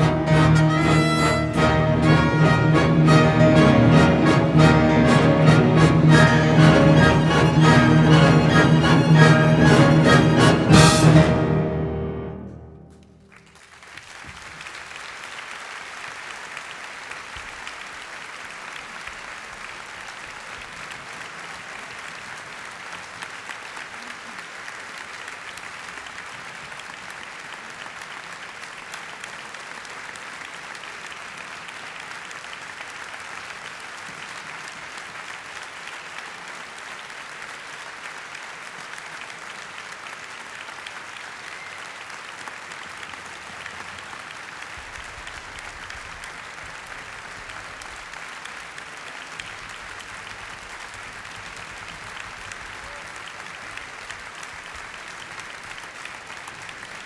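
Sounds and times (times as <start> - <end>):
audience applauding: 0.0 - 11.8, 12.9 - 57.0.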